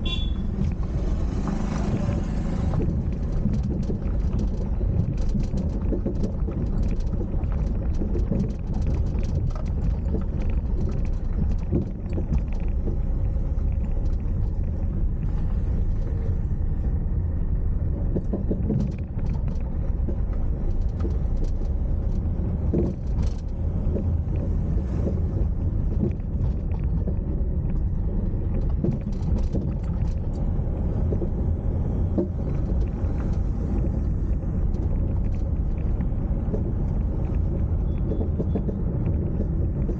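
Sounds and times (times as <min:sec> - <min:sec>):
car engine and tyre rumble: 0:00.0 - 0:39.9
small knocks and rattles: 0:00.1 - 0:39.9.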